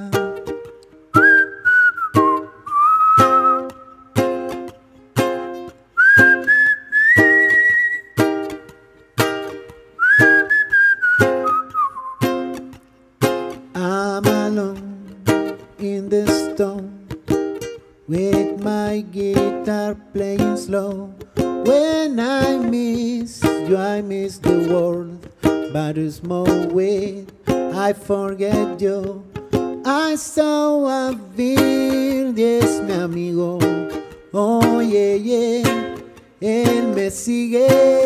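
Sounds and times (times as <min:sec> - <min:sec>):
ukulele strumming: 0:00.0 - 0:38.0.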